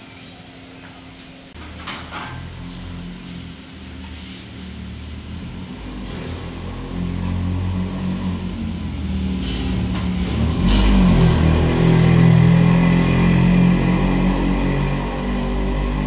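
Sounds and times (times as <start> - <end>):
vehicle engine running: 1.5 - 16.0.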